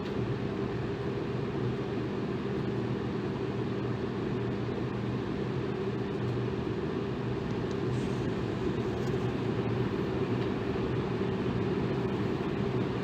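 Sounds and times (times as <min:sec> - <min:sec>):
electric fan whooshing: 0:00.0 - 0:13.0.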